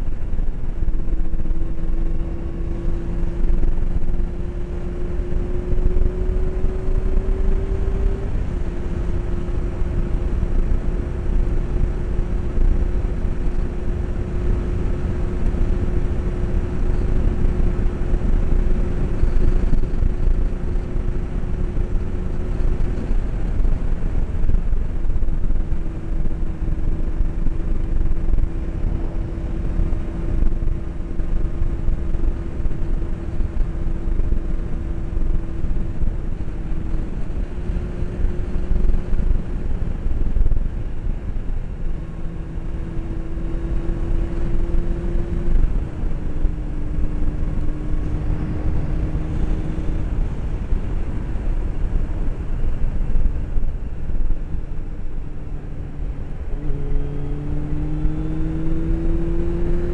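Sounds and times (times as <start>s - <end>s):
heavy wind rumble: 0.0s - 59.9s
motorcycle engine cruising: 0.0s - 59.9s.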